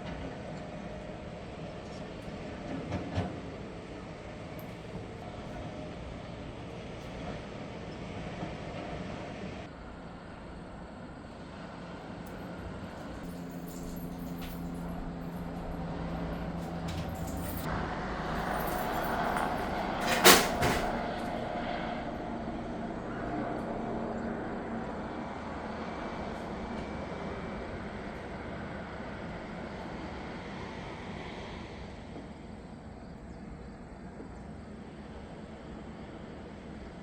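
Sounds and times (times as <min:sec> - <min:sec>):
engine hum: 0:00.0 - 0:37.0.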